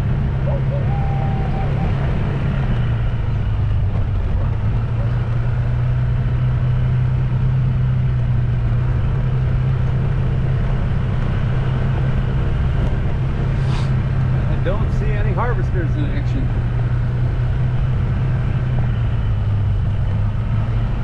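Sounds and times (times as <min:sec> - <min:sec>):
engine humming: 0:00.0 - 0:21.0
road and wind noise: 0:00.0 - 0:21.0.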